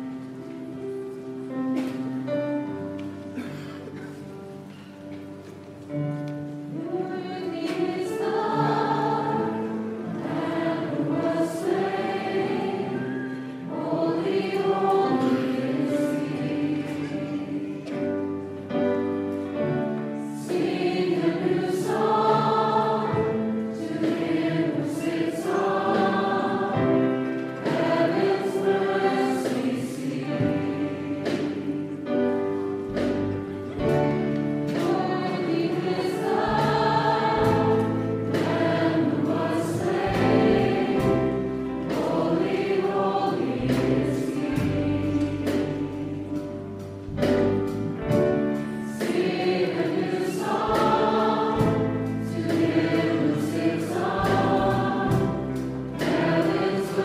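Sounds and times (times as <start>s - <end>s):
choir singing: 6.7s - 57.0s.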